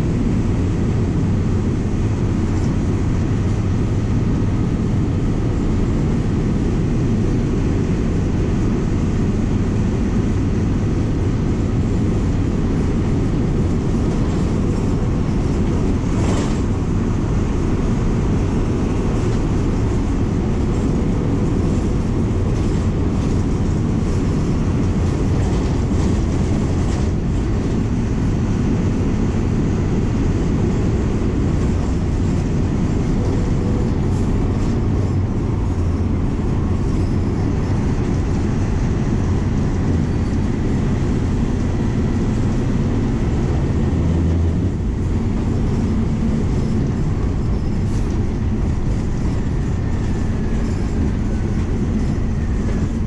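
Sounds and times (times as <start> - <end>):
diesel bus engine running: 0.0 - 53.0
road noise: 0.0 - 53.0.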